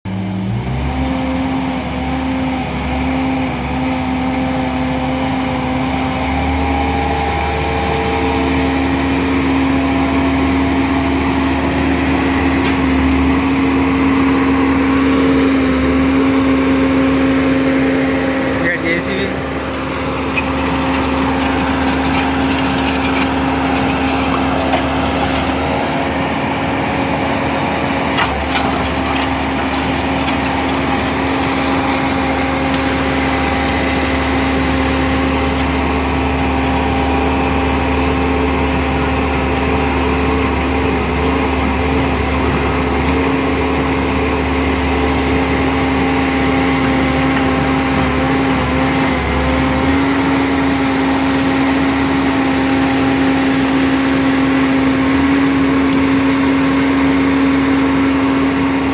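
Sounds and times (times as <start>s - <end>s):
diesel engine running: 0.1s - 58.9s.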